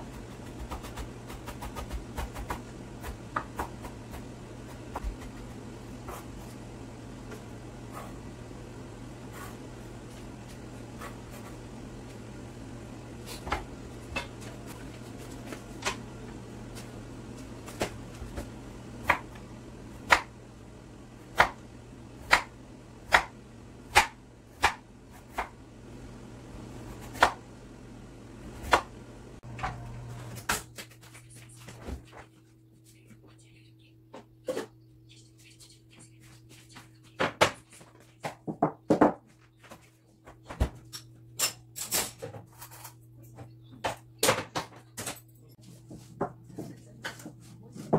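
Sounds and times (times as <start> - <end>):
steady low hum: 0.0 - 38.6.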